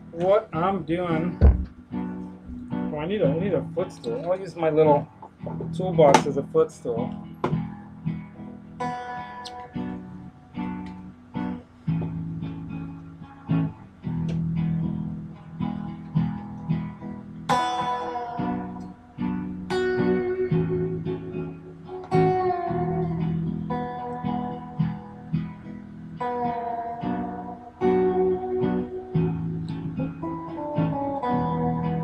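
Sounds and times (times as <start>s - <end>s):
electric guitar melody: 0.0s - 32.0s.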